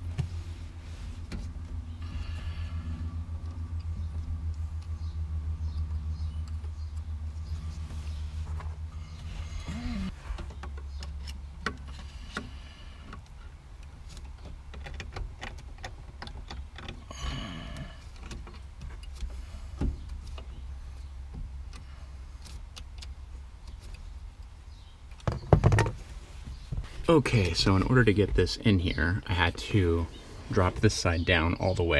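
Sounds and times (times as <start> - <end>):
steady low rumble: 0.0 - 25.2, 26.0 - 31.9.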